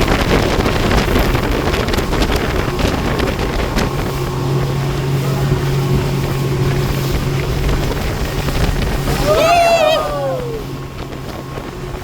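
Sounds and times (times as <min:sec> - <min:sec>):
speedboat engine running: 0:00.0 - 0:12.0
wind buffeting microphone: 0:00.0 - 0:12.0.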